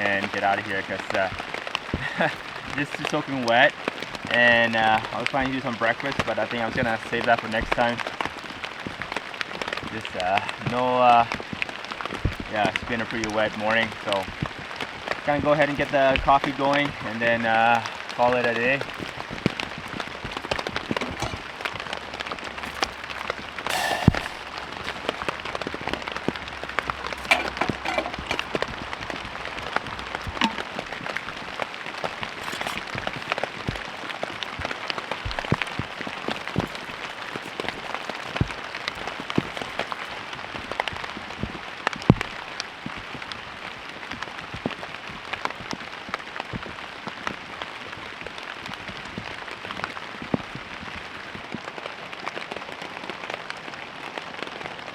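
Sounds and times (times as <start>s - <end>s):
pouring rain: 0.0s - 54.9s.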